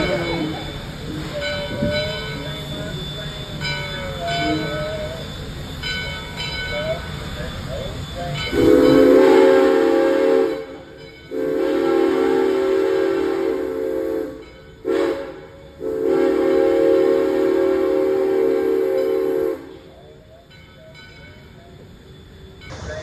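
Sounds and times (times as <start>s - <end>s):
steam locomotive whistle blasts: 0.0s - 5.6s, 6.3s - 19.9s.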